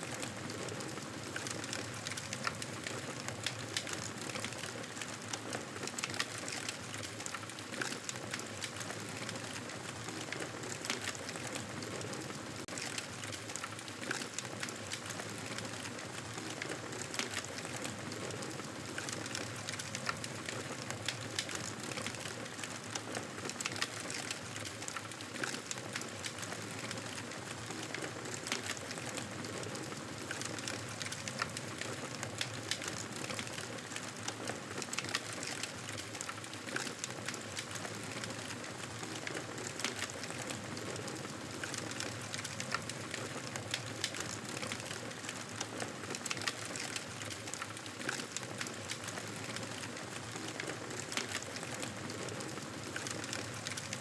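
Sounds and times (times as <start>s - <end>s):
burning wood crackling and popping: 0.0s - 54.0s.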